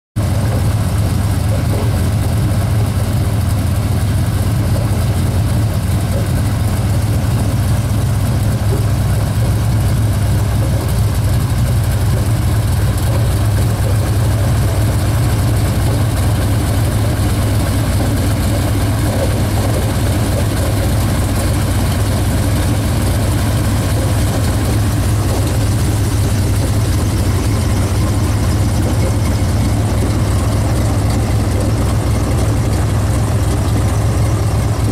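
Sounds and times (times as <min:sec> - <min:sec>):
engine droning: 0:00.2 - 0:34.9.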